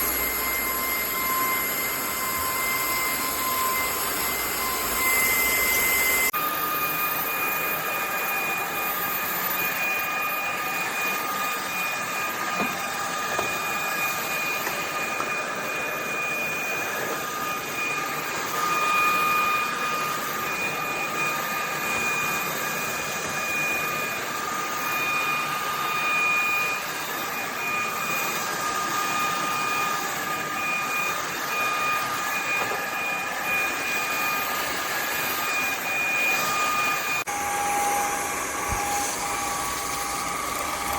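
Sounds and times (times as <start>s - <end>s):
stick vacuum running: 0.0s - 40.9s.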